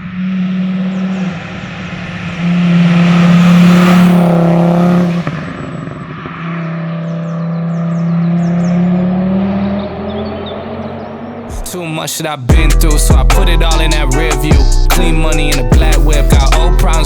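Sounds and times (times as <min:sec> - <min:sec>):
car engine running hard: 0:00.0 - 0:11.7, 0:12.5 - 0:17.0.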